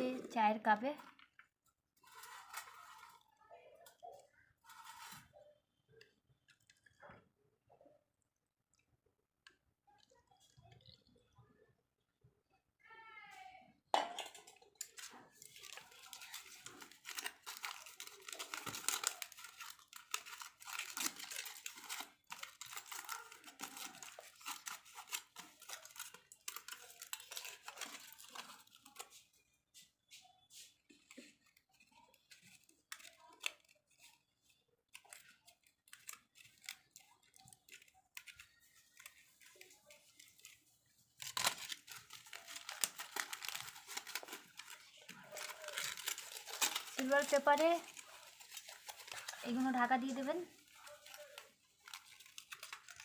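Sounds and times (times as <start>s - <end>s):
aluminium foil crinkling: 0.0s - 11.2s, 14.2s - 53.0s.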